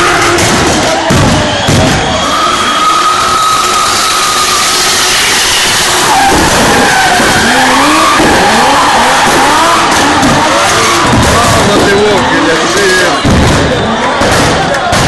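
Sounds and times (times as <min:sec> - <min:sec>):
engines revving hard: 0:00.0 - 0:15.0
tyres skidding and squealing: 0:00.0 - 0:15.0.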